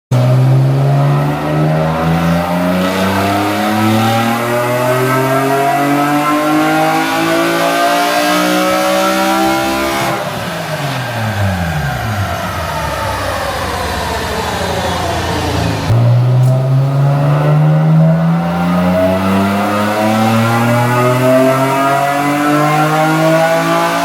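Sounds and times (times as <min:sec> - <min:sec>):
car engine revving at full throttle: 0:00.2 - 0:24.0.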